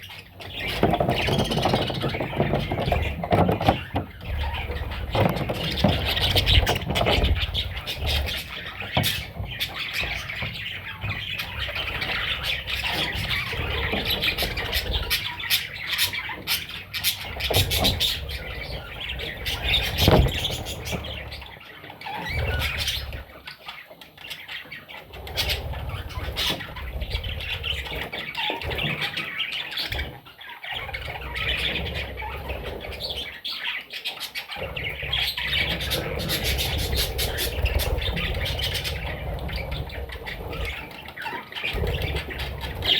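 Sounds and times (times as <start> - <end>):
budgerigar chicks squawking: 0.0 - 42.9.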